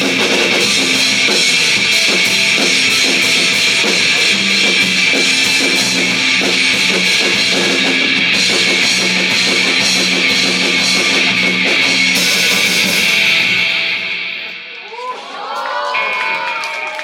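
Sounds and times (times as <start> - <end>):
live rock band playing: 0.0 - 14.8
cymbals ringing: 0.0 - 15.4.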